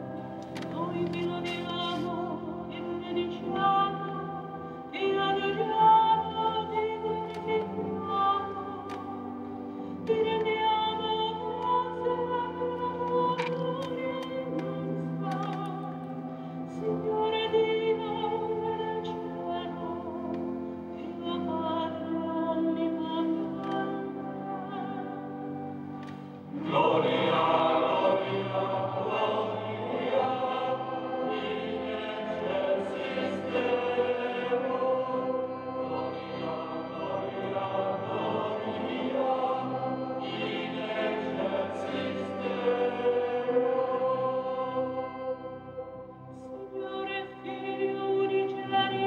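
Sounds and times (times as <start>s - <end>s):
church choir chanting: 0.0s - 49.0s.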